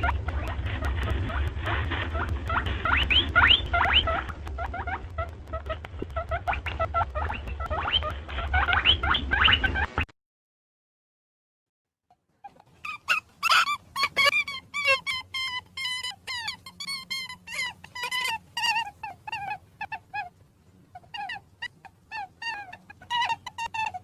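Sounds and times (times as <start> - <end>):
rabbits squeaking: 0.0 - 10.0, 12.4 - 24.0.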